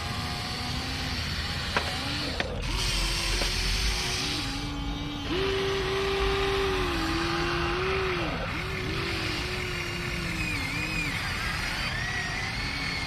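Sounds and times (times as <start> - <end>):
small electric motors whining: 0.0 - 13.0.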